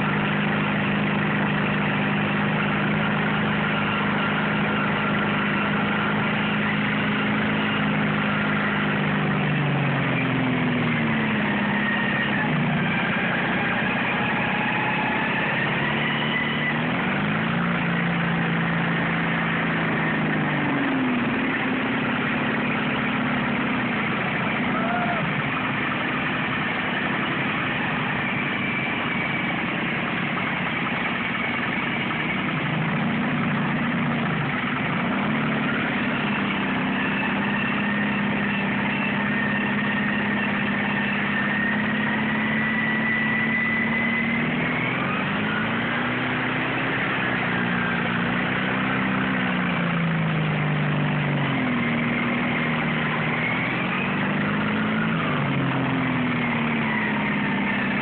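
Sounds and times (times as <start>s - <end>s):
lawn tractor engines revving: 0.0s - 58.0s.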